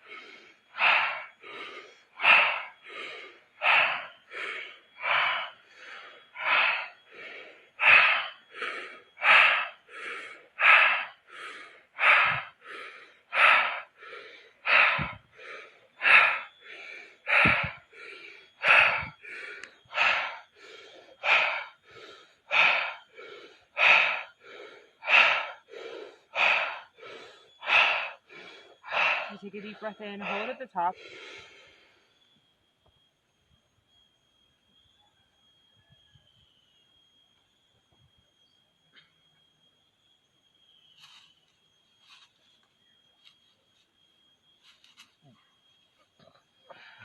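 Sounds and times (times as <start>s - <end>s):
forceful rhythmic breathing: 0.0s - 33.0s, 40.5s - 47.0s.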